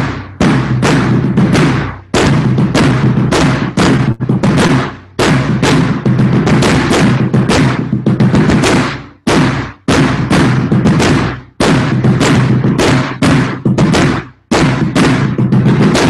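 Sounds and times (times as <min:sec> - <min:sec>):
marching bass drum: 0:00.0 - 0:16.0.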